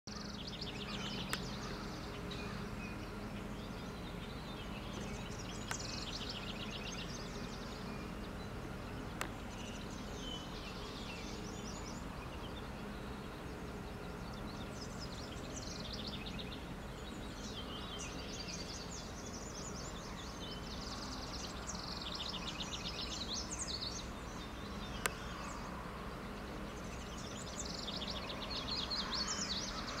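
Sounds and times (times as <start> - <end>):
low background hum: 0.1 - 30.0
wren trilling song: 0.1 - 30.0.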